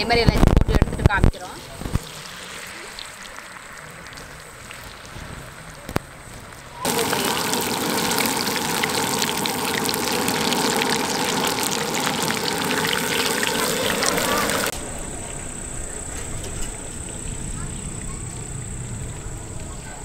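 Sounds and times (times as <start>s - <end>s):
oil sizzling and crackling: 0.0s - 19.5s.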